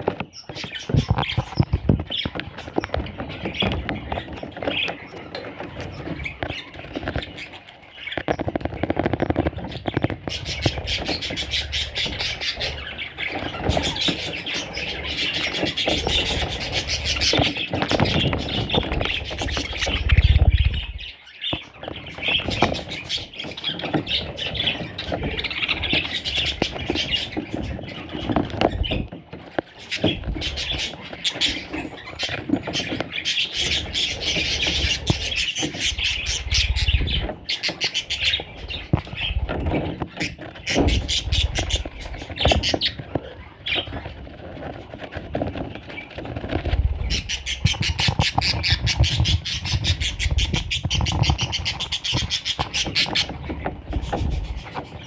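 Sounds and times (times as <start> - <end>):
budgerigars chattering and squawking: 0.0 - 55.0.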